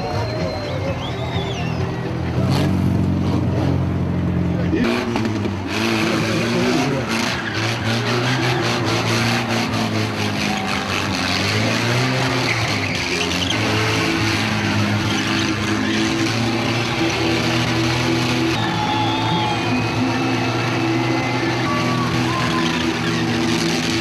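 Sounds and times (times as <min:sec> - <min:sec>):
car engine revving: 0:00.2 - 0:24.0
tyres squealing on tarmac: 0:04.7 - 0:24.0.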